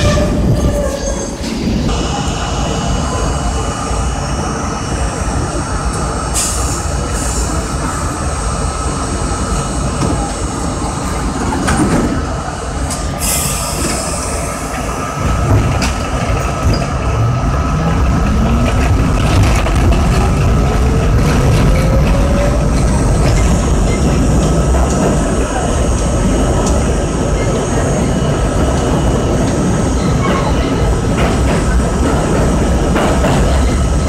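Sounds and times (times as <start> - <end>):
subway train idling: 0.0 - 34.0
wheel and rail rumble: 0.0 - 34.0.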